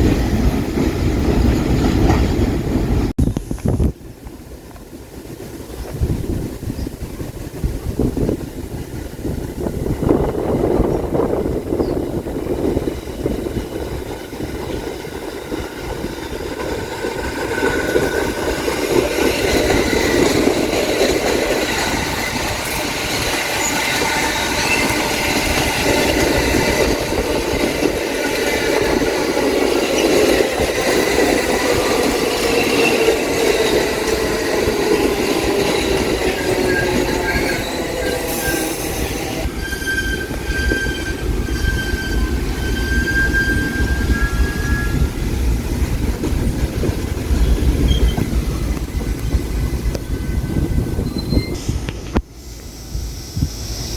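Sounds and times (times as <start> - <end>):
wheels clickety-clack: 0.0 - 37.4, 40.2 - 52.3
train rumble: 0.0 - 53.9
subway wheels squealing: 8.2 - 53.9.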